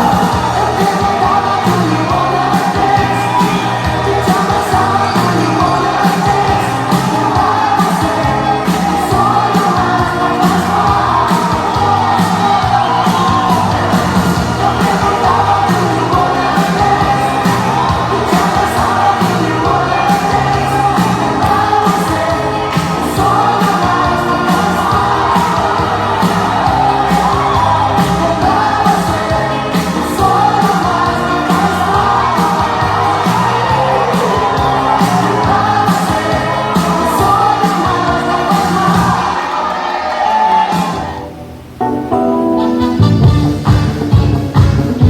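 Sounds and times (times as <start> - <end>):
lead vocal singing: 0.0 - 41.3
upbeat pop dance music: 0.0 - 45.0.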